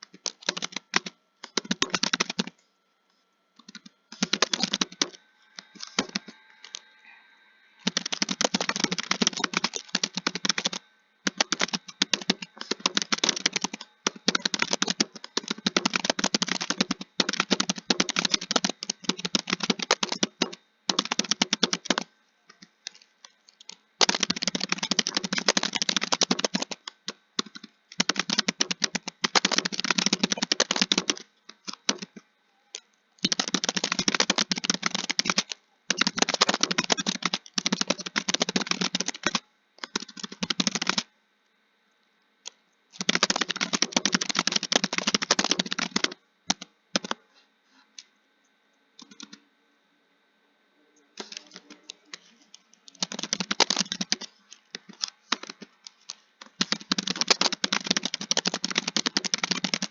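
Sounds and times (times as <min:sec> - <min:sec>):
fast typing on computer keyboard: 0:00.0 - 0:02.5, 0:03.6 - 0:06.9, 0:07.8 - 0:32.2, 0:33.2 - 0:41.1, 0:43.0 - 0:47.2, 0:49.0 - 0:49.4, 0:51.2 - 0:52.3, 0:52.9 - 0:59.9.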